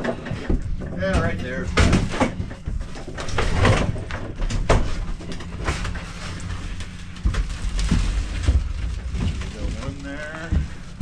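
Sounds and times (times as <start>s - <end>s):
equipment knocking and clunking: 0.0s - 6.1s, 6.8s - 11.0s
low hum: 0.0s - 11.0s.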